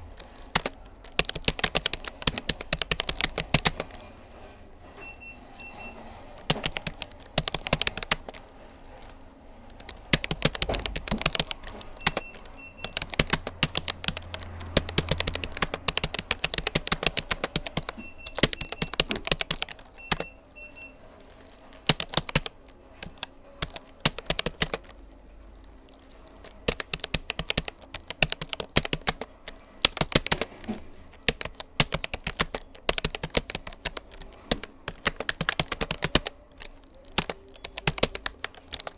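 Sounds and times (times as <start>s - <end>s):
computer keyboard key clicks: 0.2s - 4.0s, 6.4s - 8.4s, 9.8s - 20.3s, 21.8s - 24.9s, 26.4s - 30.5s, 31.1s - 38.9s.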